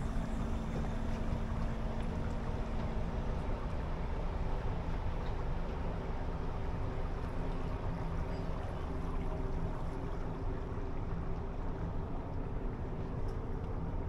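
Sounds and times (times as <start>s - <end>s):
ship machinery rumble and hum: 0.0s - 14.0s.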